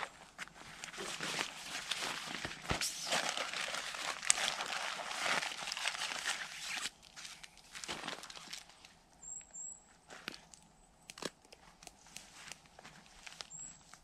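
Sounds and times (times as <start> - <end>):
rustling and crinkling: 0.0 - 9.1, 9.9 - 14.0.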